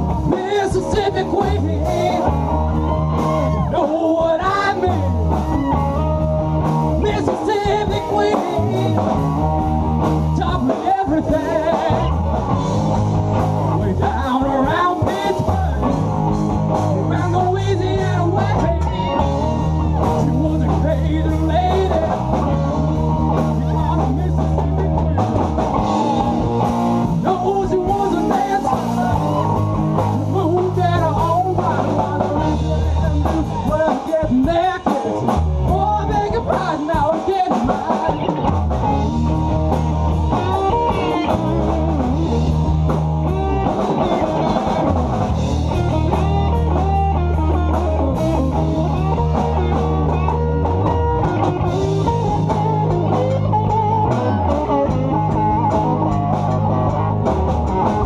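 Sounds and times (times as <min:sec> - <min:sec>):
bass line: 0:00.0 - 0:58.0
drum kit: 0:00.0 - 0:58.0
electric guitars: 0:00.0 - 0:58.0.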